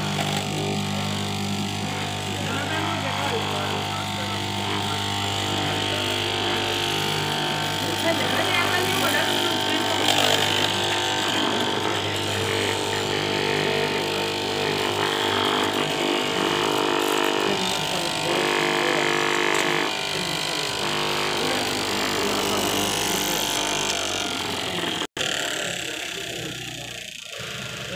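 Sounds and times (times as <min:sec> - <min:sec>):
cloth cutting machine motor hum: 0:00.0 - 0:27.9.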